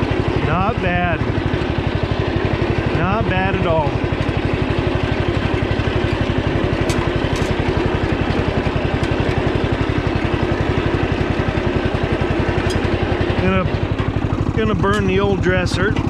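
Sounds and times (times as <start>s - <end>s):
lawn tractor engine idling: 0.0s - 16.0s.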